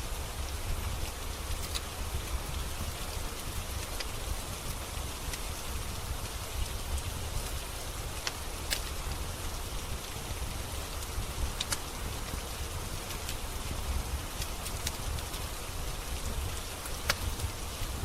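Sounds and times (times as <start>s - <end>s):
rain hiss: 0.0s - 18.0s
wood fire crackling: 0.0s - 18.0s.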